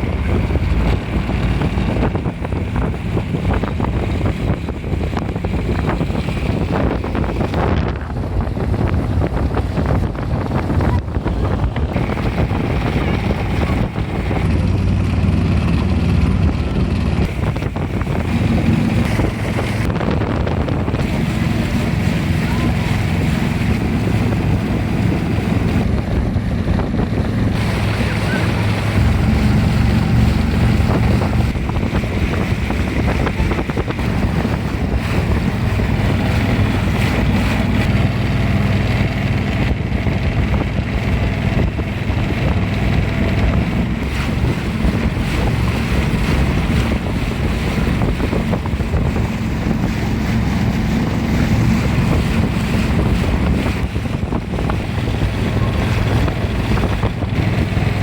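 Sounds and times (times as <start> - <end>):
boat engine rumble: 0.0 - 58.0
wind buffeting microphone: 0.0 - 58.0.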